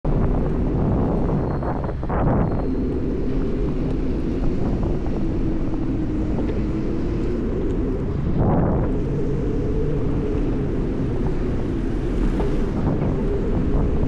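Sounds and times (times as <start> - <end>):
wind and road rumble: 0.0 - 14.0
faint hum: 0.1 - 14.0.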